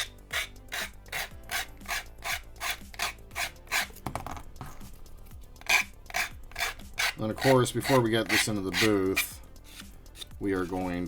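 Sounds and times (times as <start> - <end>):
sanding stick rasping on plastic: 0.0 - 4.0, 5.6 - 11.0.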